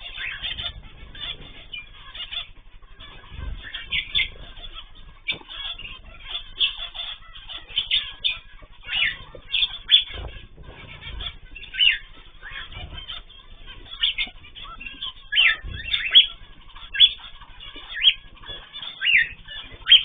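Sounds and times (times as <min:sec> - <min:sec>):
cage birds chirping: 0:00.0 - 0:20.0
low thumps: 0:00.0 - 0:20.0.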